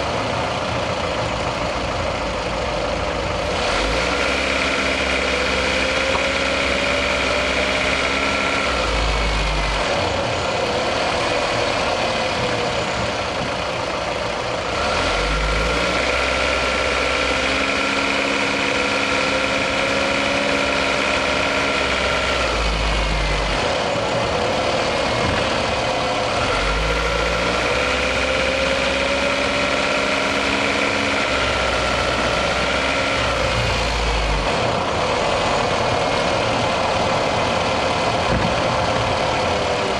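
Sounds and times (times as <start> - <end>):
car engine running under load: 0.0 - 39.9.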